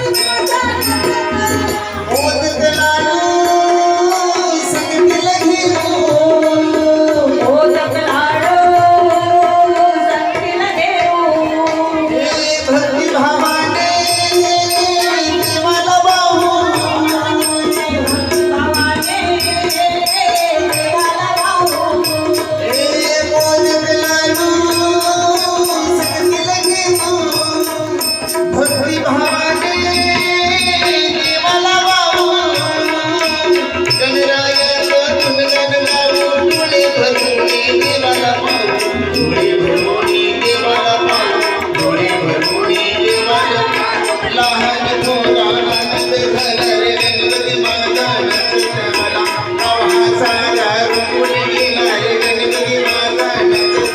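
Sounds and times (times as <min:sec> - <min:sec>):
devotional instrumental music: 0:00.0 - 0:53.9
fast high percussion: 0:00.0 - 0:53.9.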